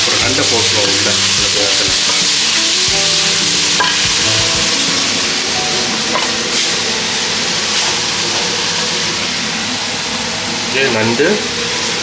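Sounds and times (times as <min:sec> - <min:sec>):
vegetables frying in hot oil: 0:00.0 - 0:12.0.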